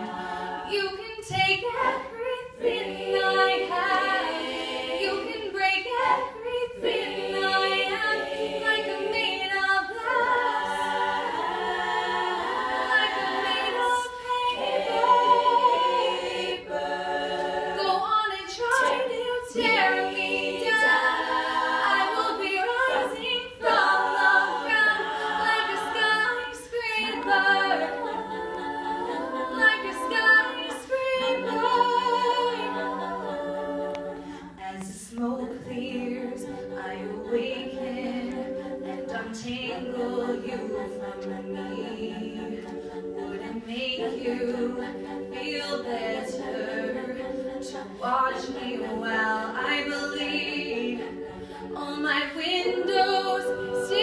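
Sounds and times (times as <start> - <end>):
women singing backing harmonies: 0.0 - 54.0.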